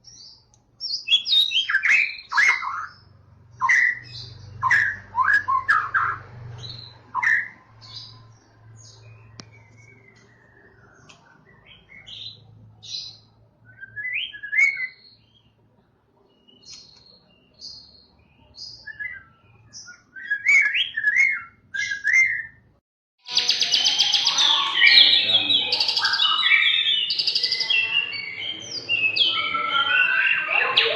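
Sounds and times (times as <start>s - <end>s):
songbird whistling and chirping: 0.0s - 15.6s, 16.3s - 22.6s, 23.3s - 30.9s.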